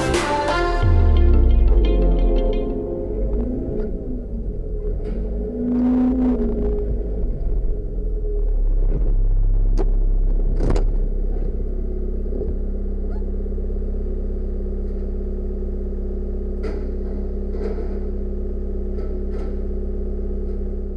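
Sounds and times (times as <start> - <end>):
forklift engine running: 0.0 - 20.9.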